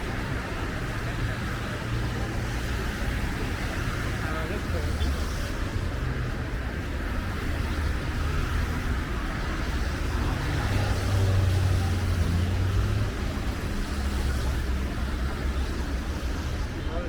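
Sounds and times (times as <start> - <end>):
cars on road: 0.0 - 17.0.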